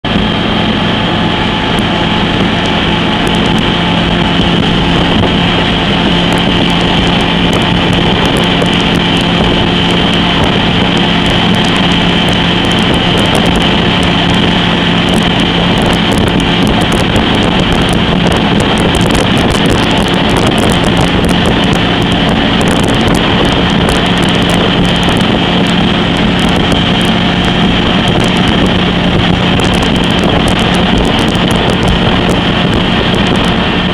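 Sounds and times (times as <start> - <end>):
speedboat engine running: 0.0 - 33.9
wind on microphone: 0.0 - 33.9.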